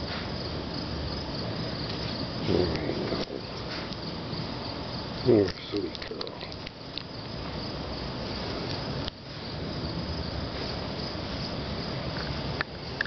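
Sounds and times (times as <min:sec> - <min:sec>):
crickets chirring: 0:00.0 - 0:13.0
dense rustling hiss: 0:00.0 - 0:13.0.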